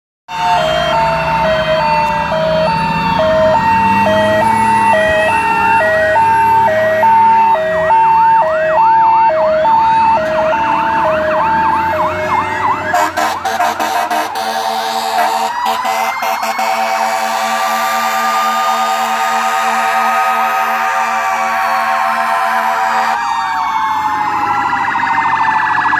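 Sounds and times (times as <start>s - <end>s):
fast yelp siren: 0.3s - 25.9s
hi-lo fire truck siren: 0.3s - 25.9s
slow falling siren wail: 0.3s - 25.9s.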